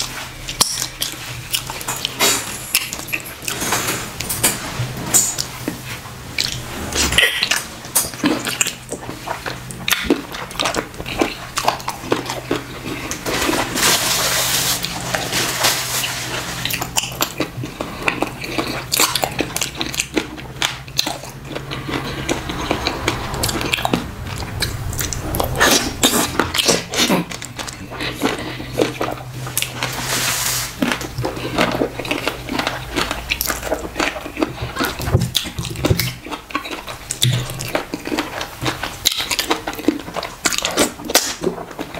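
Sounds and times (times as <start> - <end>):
chewing with wet smacks: 0.0 - 3.6, 5.1 - 13.7, 16.3 - 30.0, 30.8 - 41.9.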